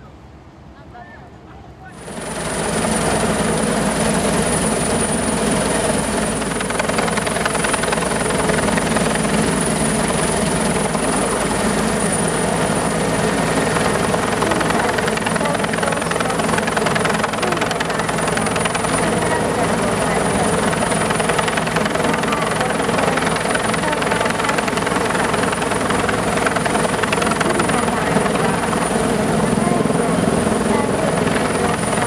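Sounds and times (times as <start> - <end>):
helicopter rotor and engine: 1.8 - 32.0.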